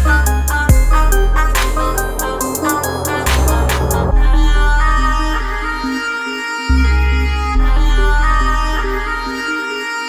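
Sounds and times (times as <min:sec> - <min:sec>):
electronic music with synth and bass: 0:00.0 - 0:10.0.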